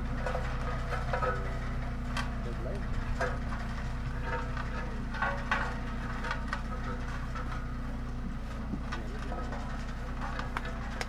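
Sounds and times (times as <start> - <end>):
diesel engine low hum: 0.0 - 11.0.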